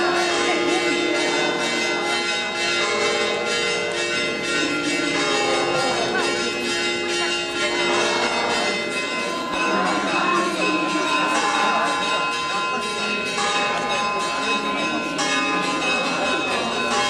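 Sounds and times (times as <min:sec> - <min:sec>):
church bells ringing: 0:00.0 - 0:17.0
crowd talking: 0:00.0 - 0:17.0.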